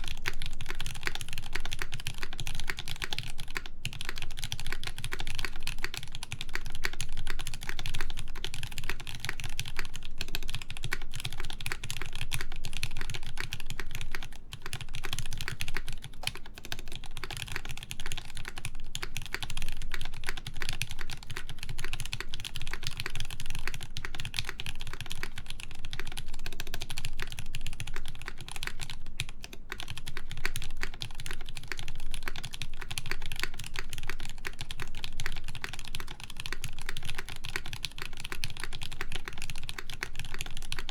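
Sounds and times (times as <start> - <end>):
mechanical keyboard typing clacks: 0.0 - 40.9.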